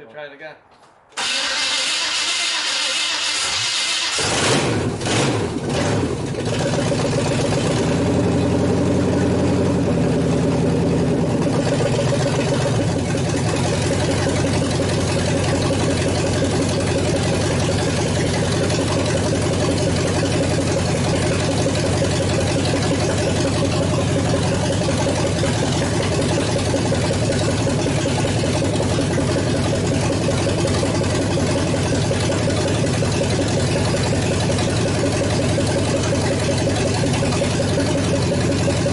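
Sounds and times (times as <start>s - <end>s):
pickup engine starting and idling: 1.1s - 38.9s.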